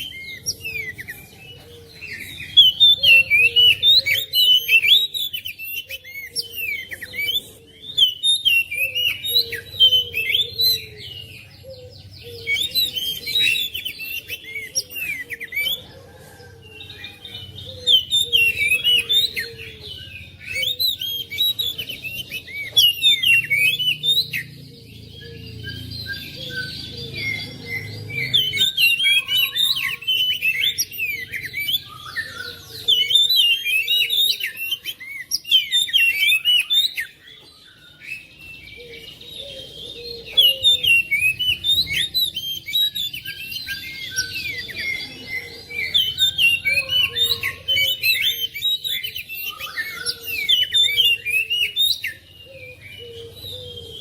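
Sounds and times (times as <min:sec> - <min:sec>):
songbird singing chirps and whistles: 0:00.0 - 0:54.0.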